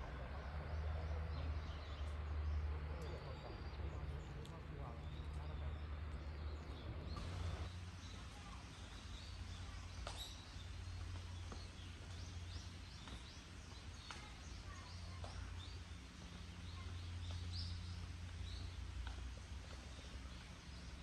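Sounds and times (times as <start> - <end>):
small birds chirping: 0.3 - 21.0.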